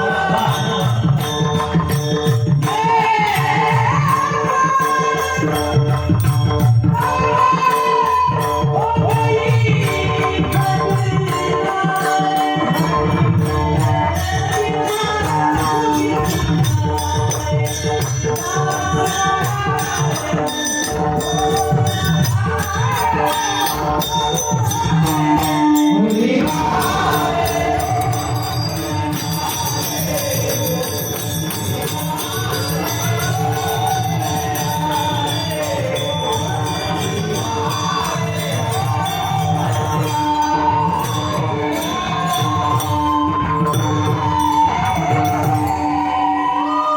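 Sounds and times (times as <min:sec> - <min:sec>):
hand percussion with jingles: 0:00.0 - 0:46.5
person singing devotional song: 0:00.0 - 0:46.9.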